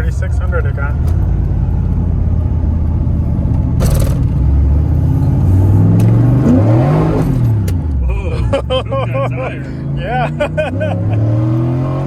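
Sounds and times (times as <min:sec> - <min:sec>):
car engine revving: 0:00.6 - 0:12.0.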